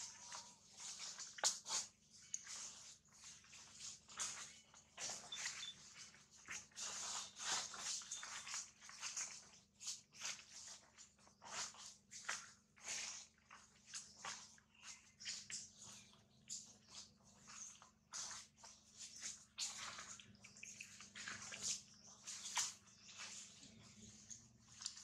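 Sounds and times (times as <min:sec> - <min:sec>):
dry leaves rustling underfoot: 0:00.0 - 0:25.0.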